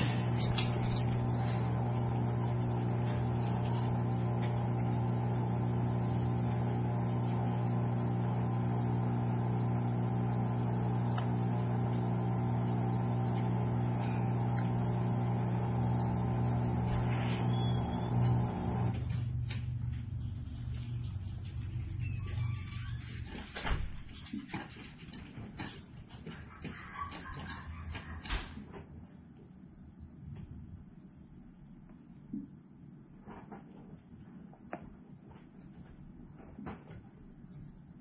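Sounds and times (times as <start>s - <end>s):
electrical hum: 0.0s - 38.0s.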